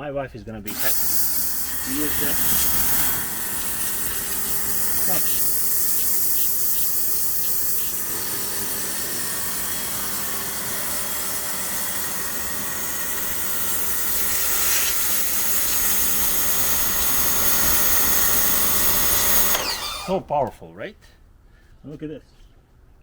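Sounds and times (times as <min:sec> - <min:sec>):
high-pressure water spray hiss: 0:00.7 - 0:20.0
pressure washer motor humming: 0:00.7 - 0:20.3.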